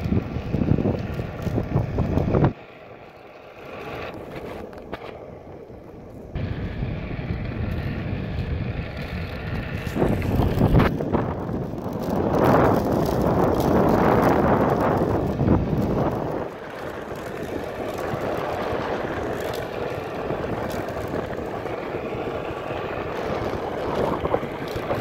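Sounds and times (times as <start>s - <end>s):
wind buffeting microphone: 0.0s - 2.6s, 4.0s - 25.0s.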